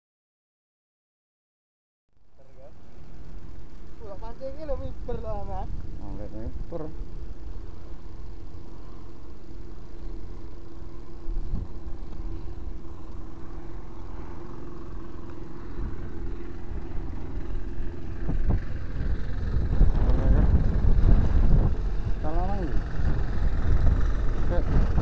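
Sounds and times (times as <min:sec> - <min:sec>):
steady low hum: 0:02.2 - 0:25.0
wind rumbling on microphone: 0:02.8 - 0:25.0.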